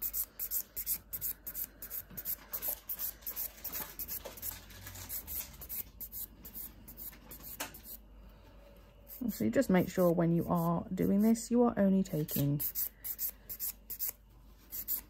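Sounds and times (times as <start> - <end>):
nail file scratching nails: 0.0 - 8.0, 9.1 - 11.4, 12.2 - 15.0.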